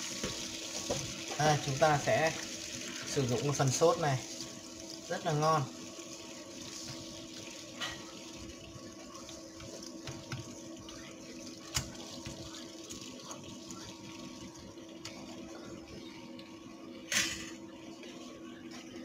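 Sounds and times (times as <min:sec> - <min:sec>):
sauce sizzling in a frying pan: 0:00.0 - 0:18.5.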